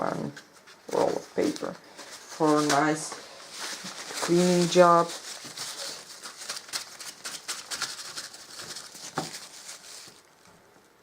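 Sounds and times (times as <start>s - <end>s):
toilet paper crumpling: 0.7s - 10.5s.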